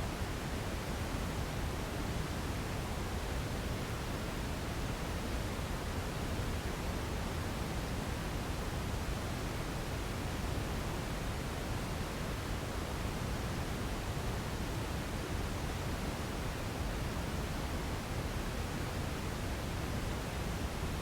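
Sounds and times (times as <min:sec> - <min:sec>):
white noise hiss: 0:00.0 - 0:21.0.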